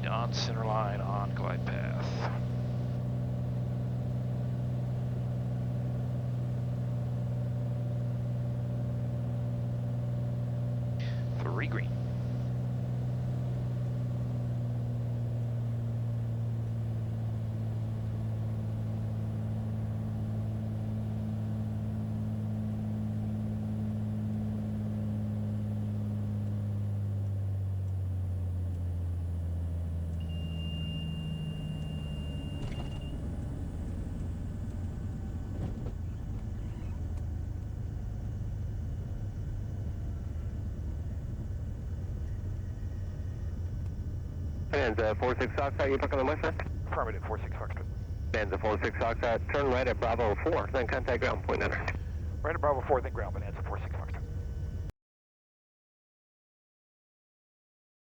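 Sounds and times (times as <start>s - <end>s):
piston engine and propeller: 0.0s - 54.9s.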